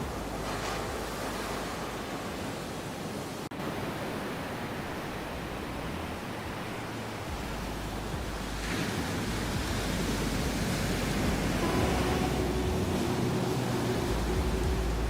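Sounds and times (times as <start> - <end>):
underwater waves rushing: 0.0 - 15.0.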